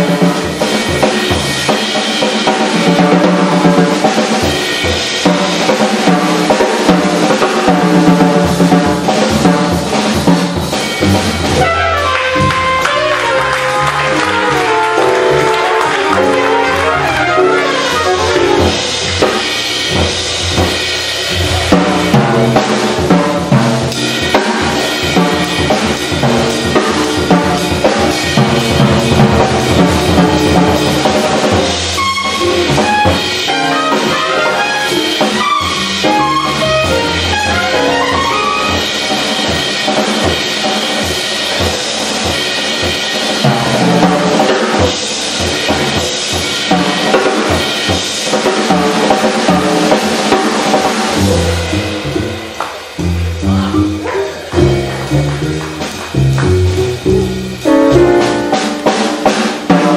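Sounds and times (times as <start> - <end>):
drum kit: 0.0 - 59.9
jazz band playing live: 0.0 - 59.9.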